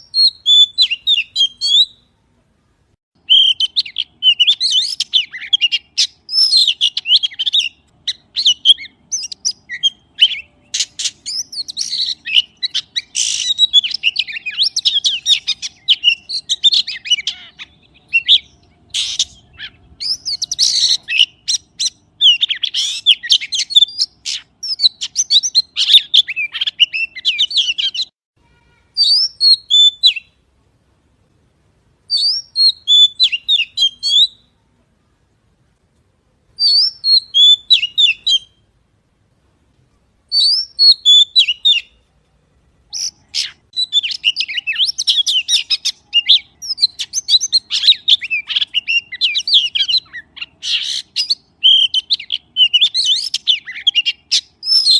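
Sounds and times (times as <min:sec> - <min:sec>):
magpie chirping song: 0:00.0 - 0:02.2, 0:03.2 - 0:28.2, 0:28.8 - 0:30.4, 0:32.1 - 0:34.6, 0:36.6 - 0:38.7, 0:40.3 - 0:42.1, 0:42.8 - 0:54.9.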